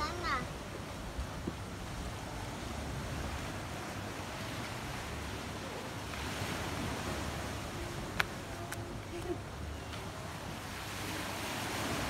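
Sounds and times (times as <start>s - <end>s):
sea waves washing ashore: 0.0s - 12.0s
wind rumbling on microphone: 0.0s - 12.0s.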